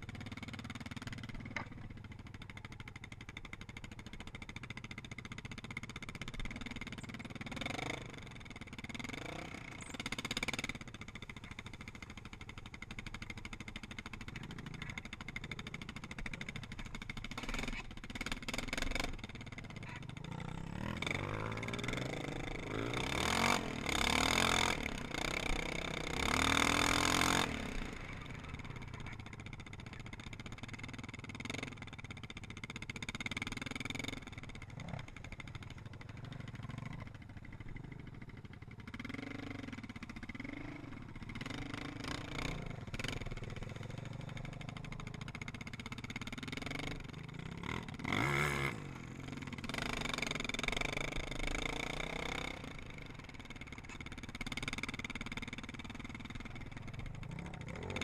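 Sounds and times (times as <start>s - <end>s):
quad engine revving: 4.5s - 58.0s.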